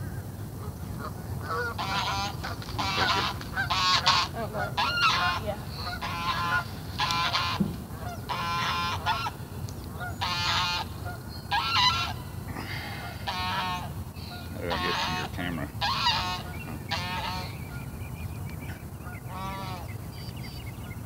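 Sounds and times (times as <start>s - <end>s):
geese honking: 0.6s - 21.0s.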